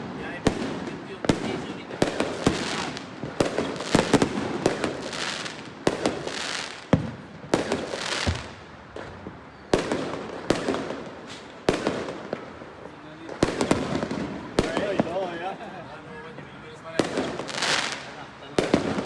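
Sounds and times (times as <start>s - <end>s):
firework crackling and hissing: 0.0s - 15.5s, 17.0s - 19.0s
firework bangs: 0.0s - 15.6s, 16.8s - 19.0s.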